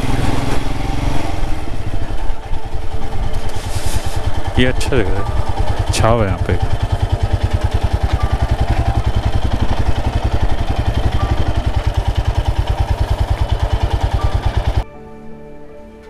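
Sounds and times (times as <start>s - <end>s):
motorcycle engine idling: 0.0s - 14.8s.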